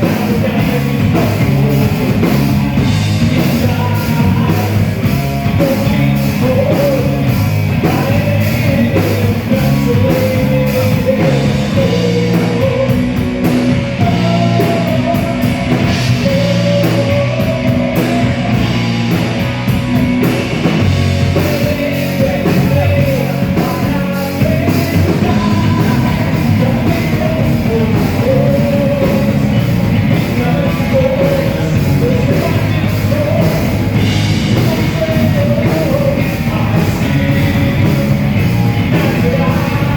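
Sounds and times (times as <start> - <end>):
person singing: 0.0 - 19.4, 20.7 - 39.9
rock band playing live: 0.0 - 39.9.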